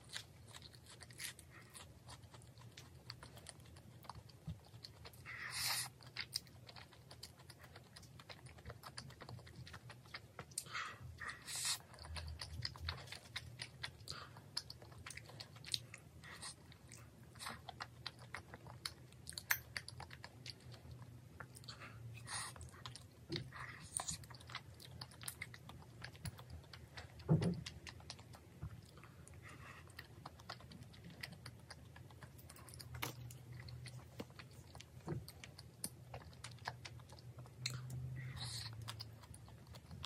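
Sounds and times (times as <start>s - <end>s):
wet chewing: 0.0s - 40.0s.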